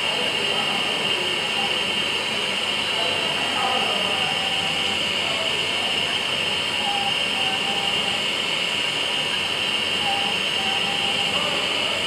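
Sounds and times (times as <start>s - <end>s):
milling machine whine: 0.0s - 12.0s.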